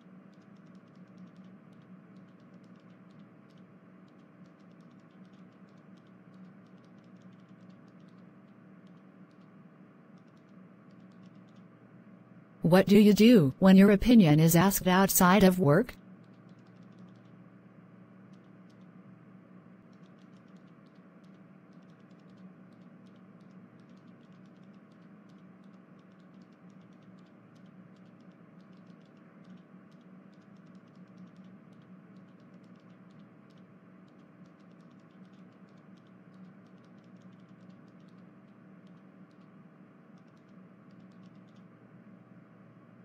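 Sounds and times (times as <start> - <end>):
faint rapid clicking: 0.0 - 11.9, 15.9 - 41.9.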